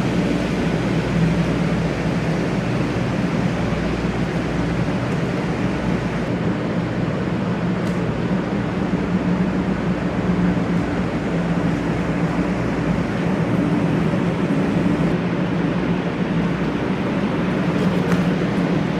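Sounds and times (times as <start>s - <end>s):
train running rumble and hum: 0.0s - 18.9s.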